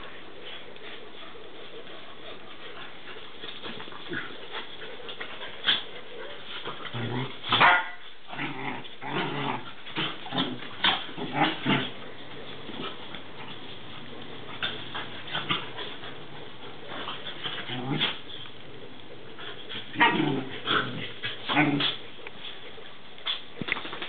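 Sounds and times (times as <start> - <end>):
dogs growling and yapping: 0.0 - 23.6
dogs scuffling: 0.0 - 24.0.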